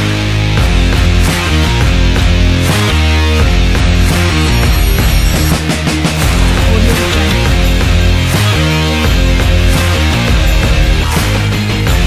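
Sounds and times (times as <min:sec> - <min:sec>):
energetic music with heavy bass: 0:00.0 - 0:12.0.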